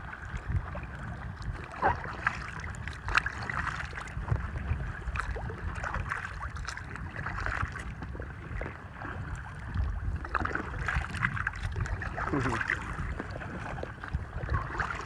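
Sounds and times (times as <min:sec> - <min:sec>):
paddle splashing and dripping: 0:00.0 - 0:15.0
water lapping at hull: 0:00.0 - 0:15.0
wind rumble on microphone: 0:00.0 - 0:15.0.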